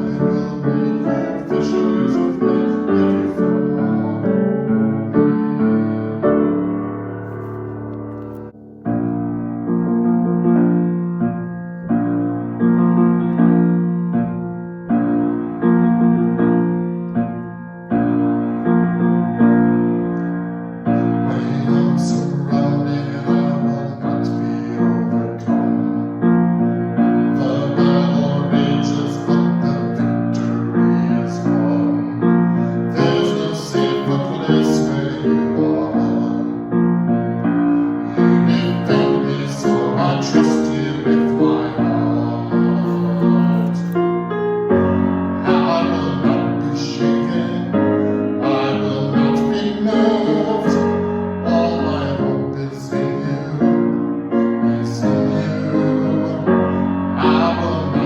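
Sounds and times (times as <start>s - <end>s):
piano piece: 0.0s - 58.0s.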